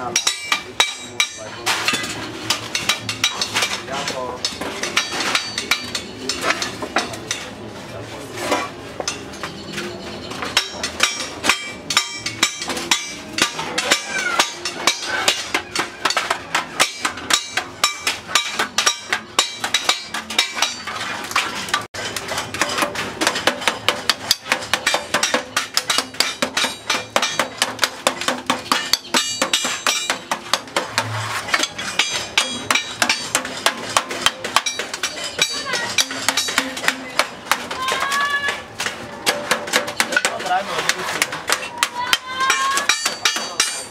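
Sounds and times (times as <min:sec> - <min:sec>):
hammer on metal pan: 0:00.0 - 0:03.8, 0:10.4 - 0:43.9.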